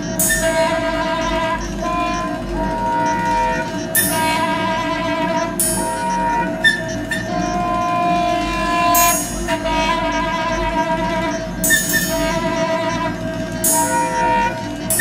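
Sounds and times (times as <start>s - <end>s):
ringing percussion: 0.0s - 15.0s
soprano saxophone long tones: 0.2s - 15.0s.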